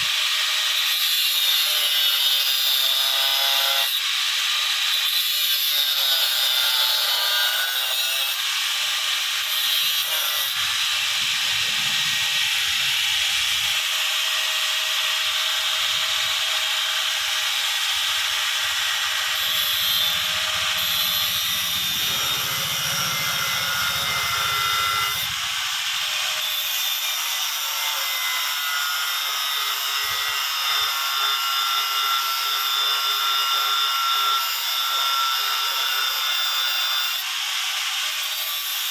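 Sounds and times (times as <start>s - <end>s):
power tool cutting steel bar: 0.0s - 38.9s.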